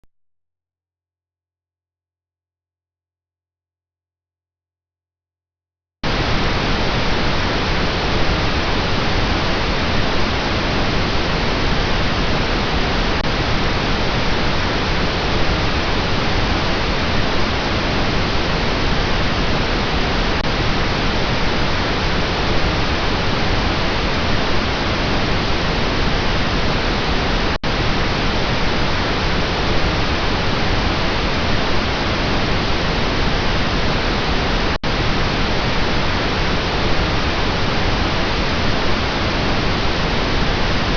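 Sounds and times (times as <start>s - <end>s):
pink noise hiss: 6.0s - 40.9s.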